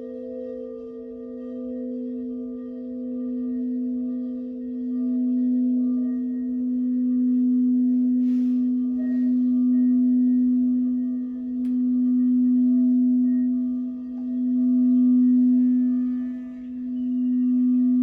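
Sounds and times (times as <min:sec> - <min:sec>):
crystal singing bowls ringing: 0:00.0 - 0:18.0.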